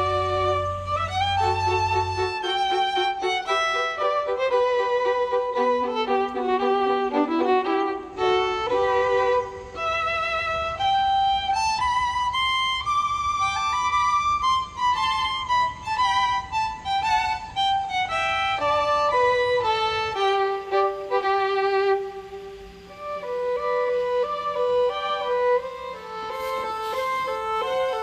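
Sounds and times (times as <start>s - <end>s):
slow solo violin melody: 0.0s - 28.0s.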